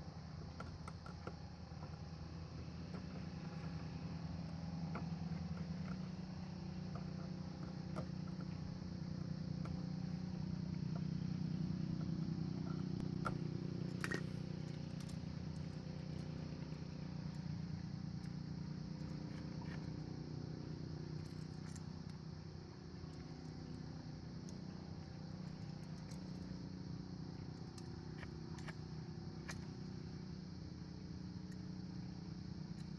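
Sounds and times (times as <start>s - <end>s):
low mechanical hum: 0.0s - 32.9s.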